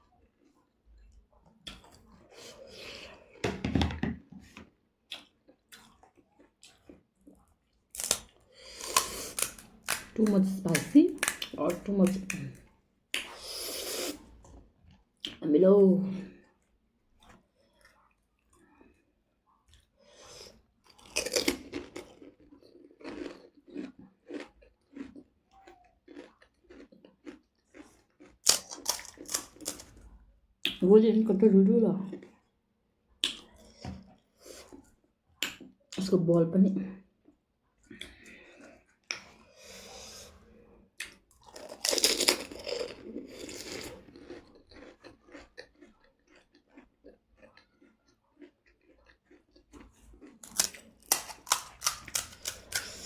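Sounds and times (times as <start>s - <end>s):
crunching and chewing food: 0.0s - 15.4s, 16.2s - 30.8s, 32.0s - 36.0s, 37.0s - 53.0s.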